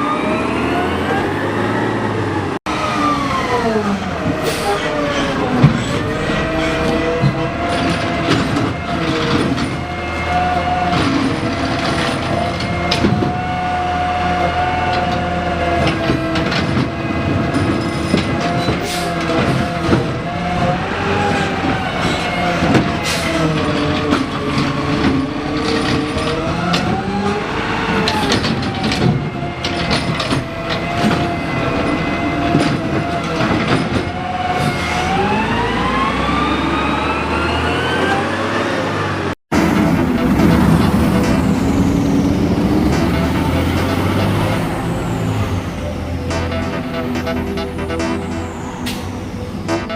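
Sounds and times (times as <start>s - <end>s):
truck engine and hydraulic whine: 0.0s - 49.9s.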